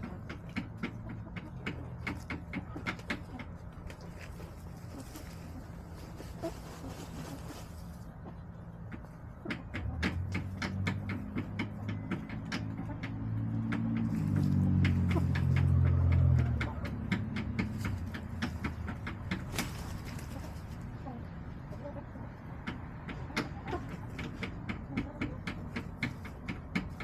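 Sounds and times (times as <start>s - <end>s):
chickens pecking taps: 0.0s - 27.0s
vehicle engine hum passing: 0.0s - 27.0s.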